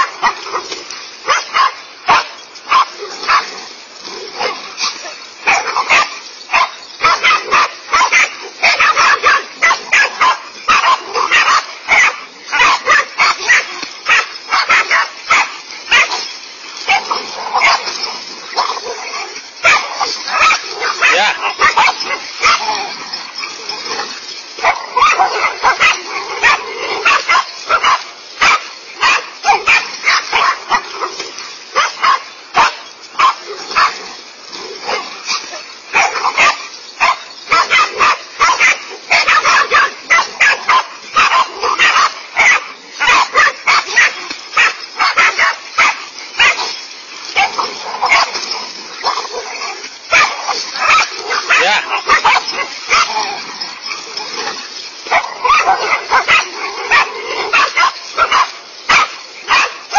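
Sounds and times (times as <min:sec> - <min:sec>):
dogs barking: 0:00.0 - 0:59.9.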